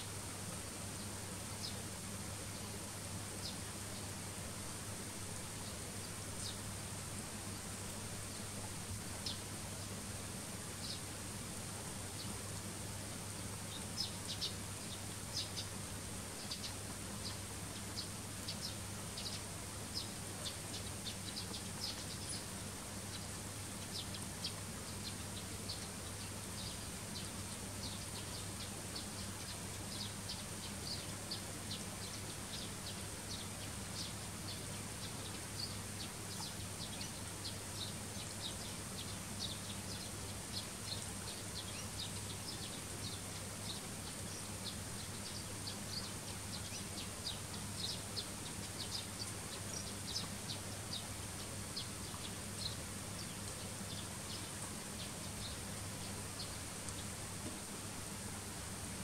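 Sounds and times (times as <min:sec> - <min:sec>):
sparrows chirping: 0:03.4 - 0:06.8, 0:07.4 - 0:09.9, 0:10.7 - 0:11.2, 0:13.3 - 0:57.2.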